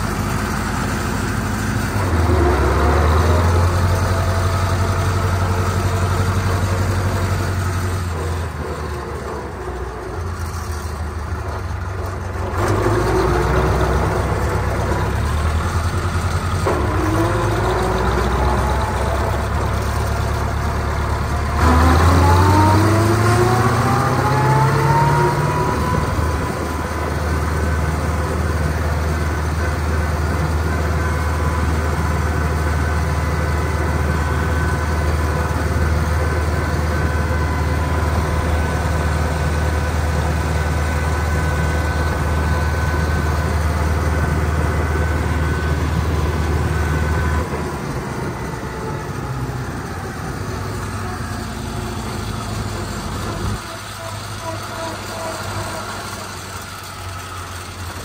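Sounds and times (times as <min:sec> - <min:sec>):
tractor diesel engine: 0:00.0 - 0:58.0.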